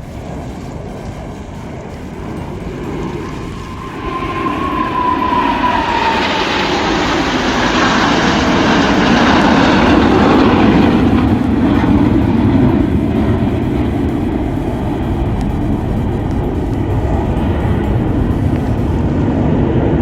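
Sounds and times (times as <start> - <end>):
aircraft flying past: 0.0 - 20.0.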